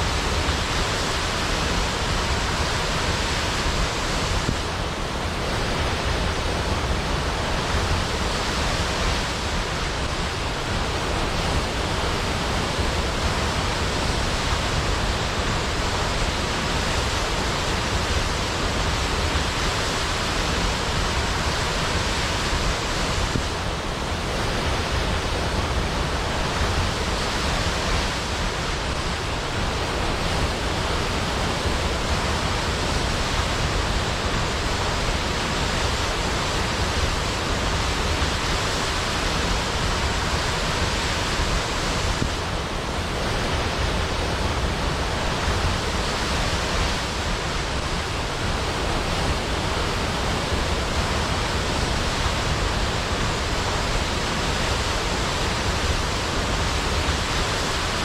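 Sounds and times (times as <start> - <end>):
waterfall crashing into pool: 0.0 - 58.0.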